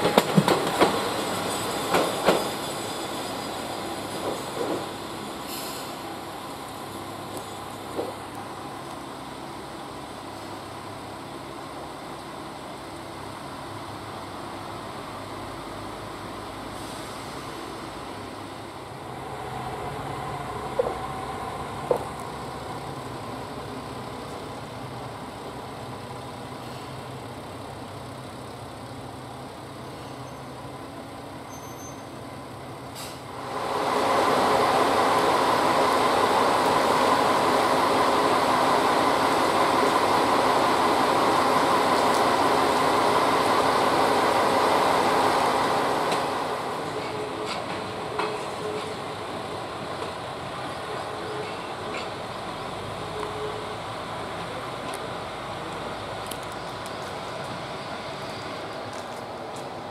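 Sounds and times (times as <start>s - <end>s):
diesel railcar engine running: 0.0s - 59.9s.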